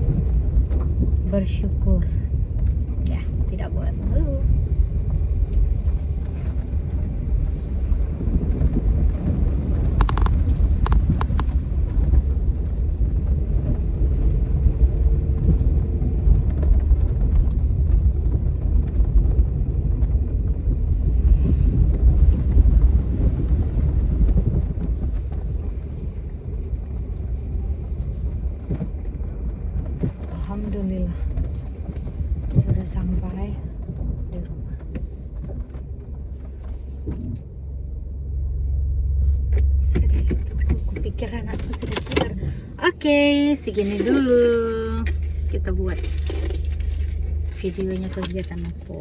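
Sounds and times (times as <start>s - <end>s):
vehicle rumble: 0.0s - 49.0s
wind on microphone: 0.0s - 49.0s.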